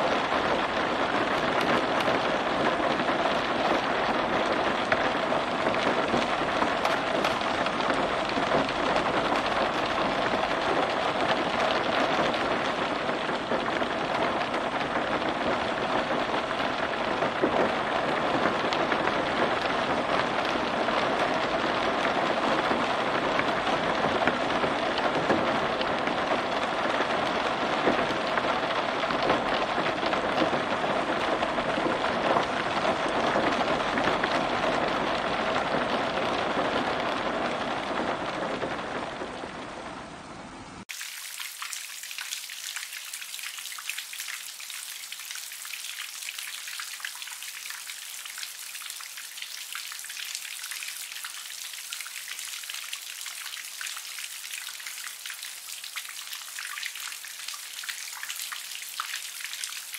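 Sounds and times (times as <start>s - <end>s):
rain on a car roof: 0.0s - 59.9s.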